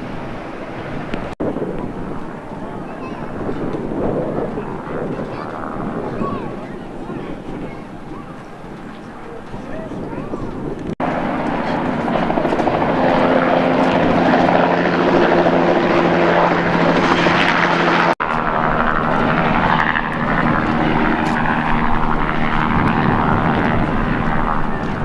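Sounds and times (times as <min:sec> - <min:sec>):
helicopter flying overhead: 0:00.0 - 0:25.0
turboprop engines humming: 0:00.0 - 0:25.0.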